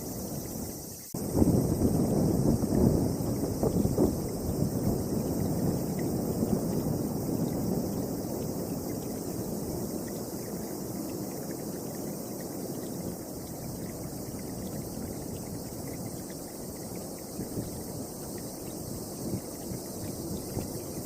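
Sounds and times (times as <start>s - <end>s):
strong wind blowing: 0.0s - 10.0s, 13.8s - 21.0s.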